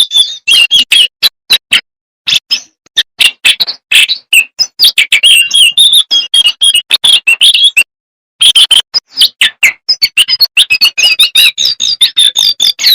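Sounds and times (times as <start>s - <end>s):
songbird chirping and whistling: 0.0s - 12.9s.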